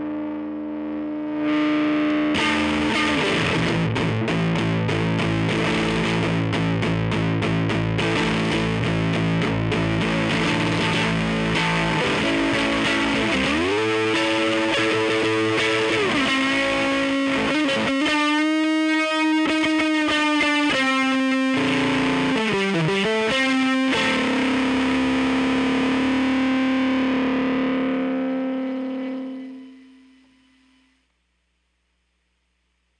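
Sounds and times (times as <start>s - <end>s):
distorted electric guitar: 0.0s - 31.0s.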